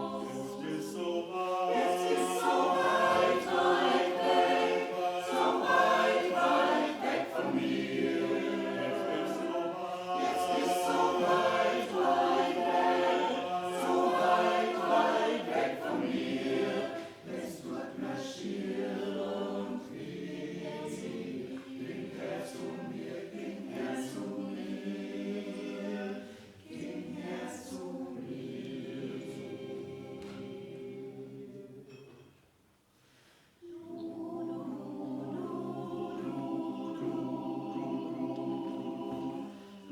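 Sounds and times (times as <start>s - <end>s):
choir singing in harmony: 0.0s - 32.3s, 33.6s - 39.9s.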